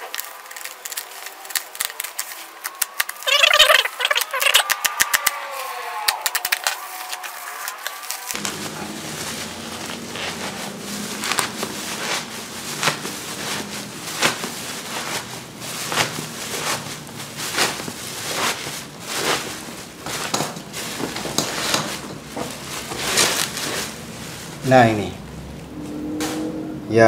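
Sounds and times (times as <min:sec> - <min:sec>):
bubble wrap crinkling: 0:00.0 - 0:25.8.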